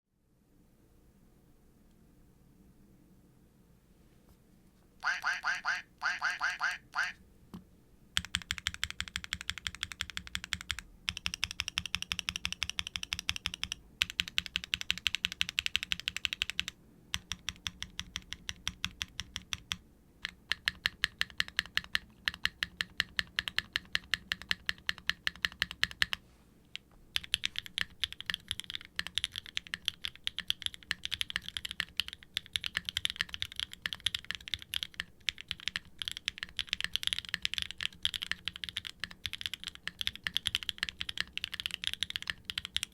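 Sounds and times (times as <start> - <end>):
mechanical keyboard typing: 8.2 - 42.9.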